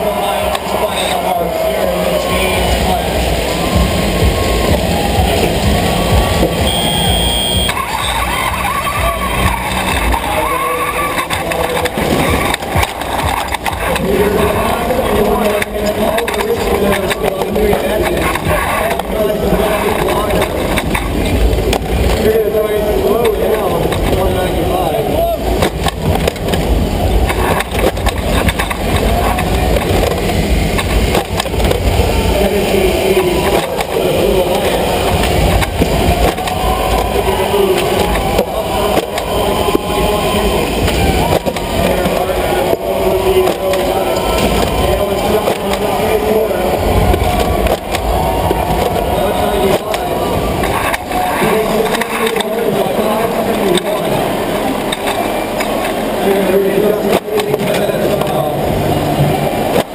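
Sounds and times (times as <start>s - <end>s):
electric motors whining: 0.0s - 59.9s
wheels rolling on carpet: 0.0s - 59.9s
robot chassis rattling and rumbling: 7.7s - 56.2s.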